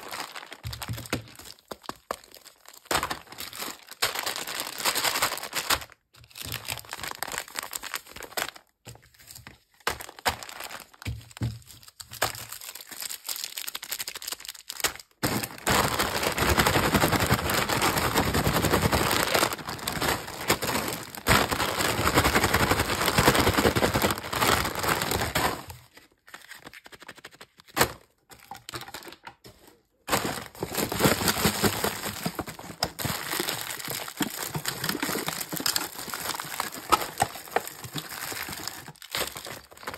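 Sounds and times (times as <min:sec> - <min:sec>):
plastic wrappers crinkling: 0:00.0 - 0:39.9.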